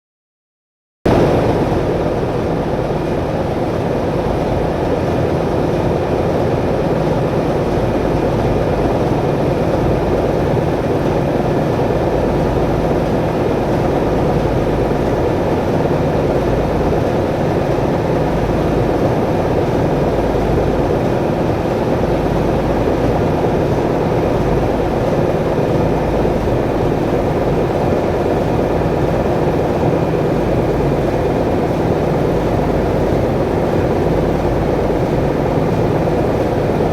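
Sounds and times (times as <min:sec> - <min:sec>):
ship engine machinery drone: 0:01.1 - 0:36.9.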